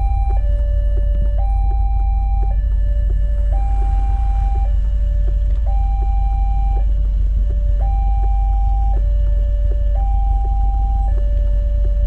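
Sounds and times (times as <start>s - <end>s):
loud low rumble: 0.0s - 12.0s
two-tone crossing alarm: 0.0s - 12.0s.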